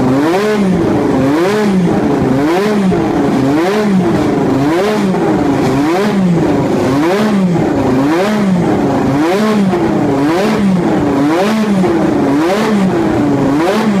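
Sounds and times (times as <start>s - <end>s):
racing car engine revving: 0.0s - 14.0s.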